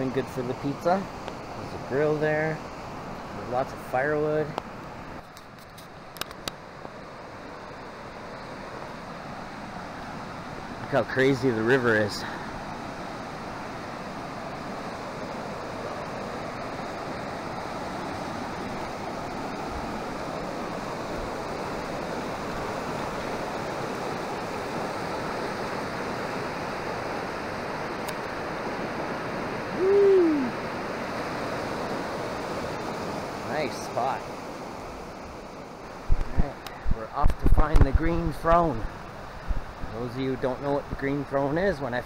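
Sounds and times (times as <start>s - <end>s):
river roaring over rapids: 0.0s - 42.0s.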